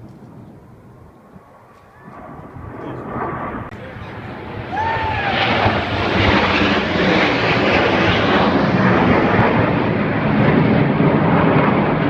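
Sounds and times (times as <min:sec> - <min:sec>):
aircraft engine overhead: 0:00.0 - 0:12.0.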